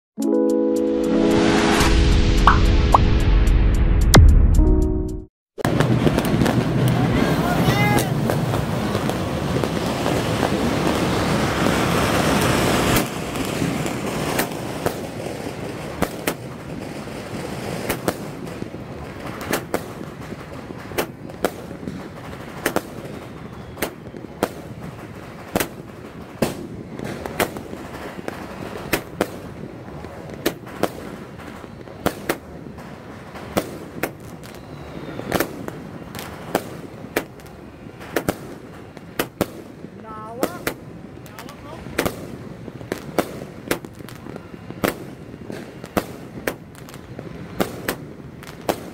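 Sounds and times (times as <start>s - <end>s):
firework shots and aerial bursts: 5.6s - 48.9s
firework fuse hissing: 5.7s - 46.4s.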